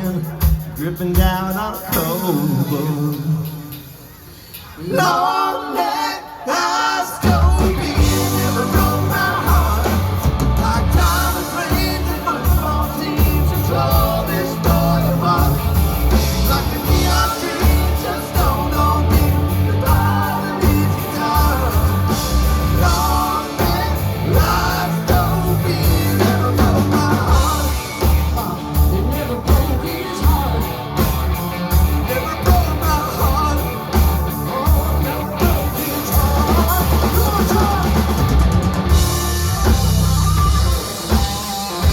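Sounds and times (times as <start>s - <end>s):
live rock band playing: 0.0s - 4.8s, 7.2s - 41.9s.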